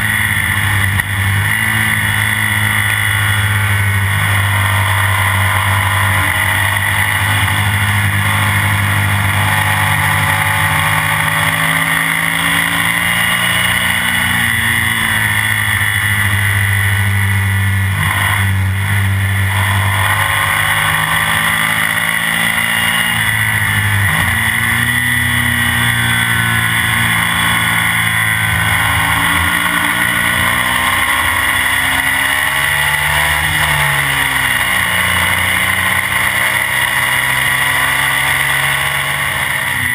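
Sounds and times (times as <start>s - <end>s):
sidecar engine running hard: 0.0s - 39.9s
wind and road rush: 0.0s - 39.9s.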